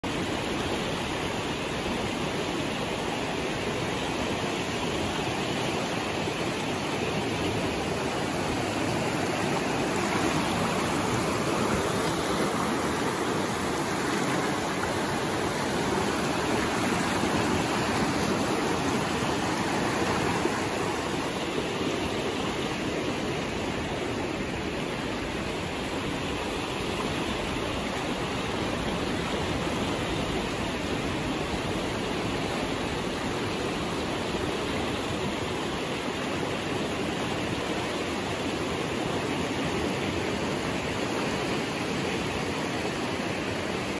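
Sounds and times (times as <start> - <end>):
whitewater rushing: 0.0 - 43.9.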